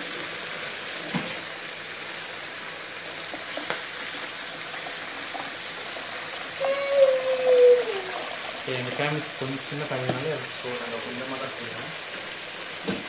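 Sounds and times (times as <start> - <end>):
water pouring into a pot: 0.0 - 13.0.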